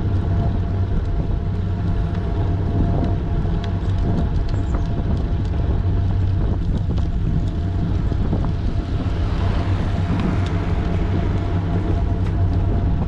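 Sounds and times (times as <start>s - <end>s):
bicycle tyre rumble on path: 0.0s - 13.0s
wind buffeting microphone: 0.0s - 13.0s.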